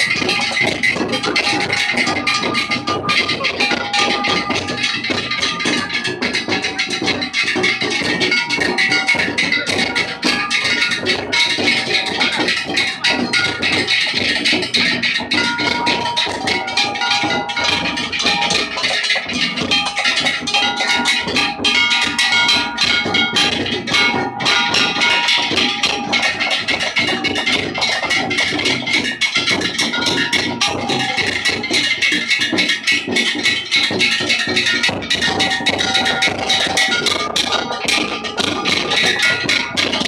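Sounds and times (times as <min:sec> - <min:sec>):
hand gongs and drums: 0:00.0 - 0:40.0.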